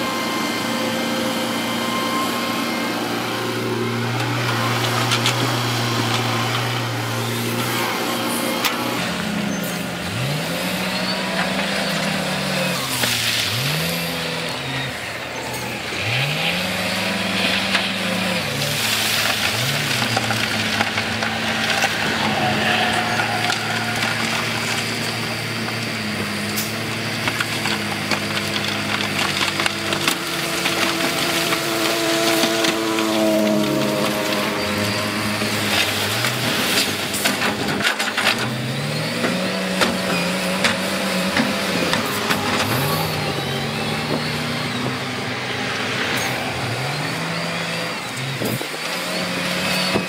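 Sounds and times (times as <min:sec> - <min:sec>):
diesel machinery engine revving: 0:00.0 - 0:50.0.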